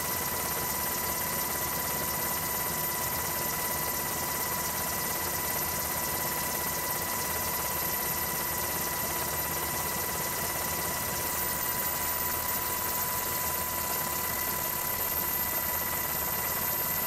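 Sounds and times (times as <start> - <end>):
aircraft engine noise with high whine: 0.0 - 17.0.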